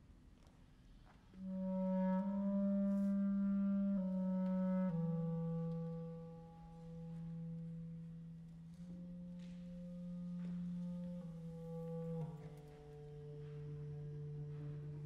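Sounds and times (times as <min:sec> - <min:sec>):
cello: 0:00.0 - 0:15.0
violin: 0:00.4 - 0:15.0
clarinet: 0:01.1 - 0:15.0.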